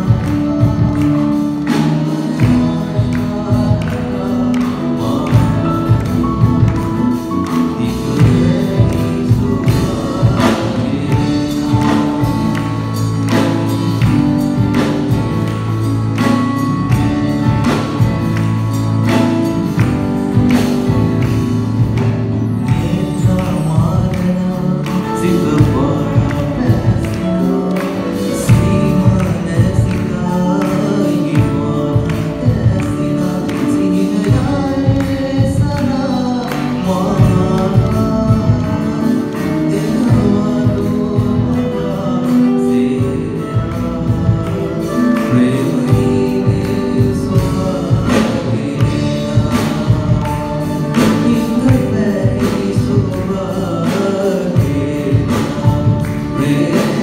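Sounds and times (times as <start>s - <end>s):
group of people singing: 0.0s - 15.8s, 19.6s - 57.0s
live band playing: 0.0s - 57.0s.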